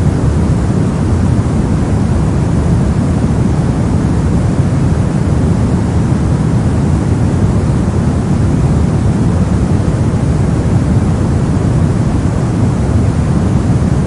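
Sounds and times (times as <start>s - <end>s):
brown noise rumbling hiss: 0.0s - 14.0s.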